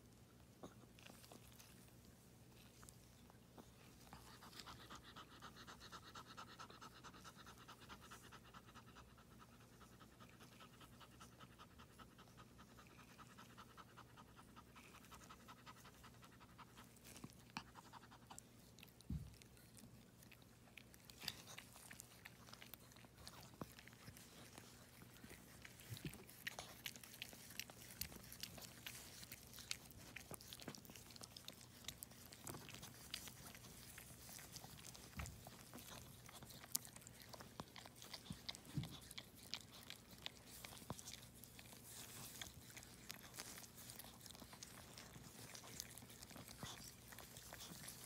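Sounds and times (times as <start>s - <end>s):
dog panting: 0.6s - 48.0s.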